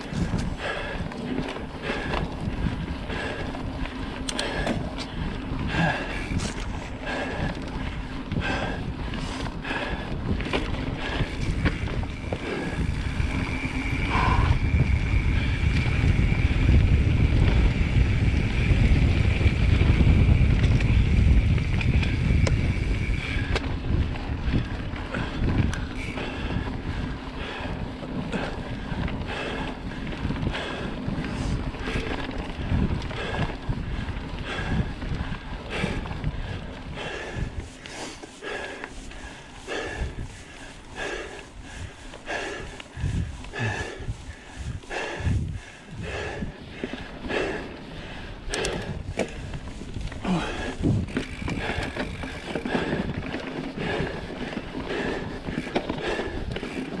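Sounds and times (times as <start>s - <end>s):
bike rattling and knocking: 0.0s - 57.0s
bike tyres on dirt: 0.0s - 57.0s
wind buffeting microphone: 0.0s - 57.0s.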